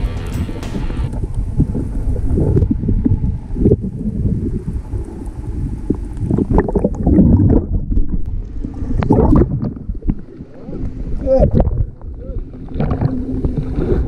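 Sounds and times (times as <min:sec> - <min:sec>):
muffled underwater rumbling wash: 0:00.0 - 0:14.0
water sloshing and bubbling: 0:00.0 - 0:14.0.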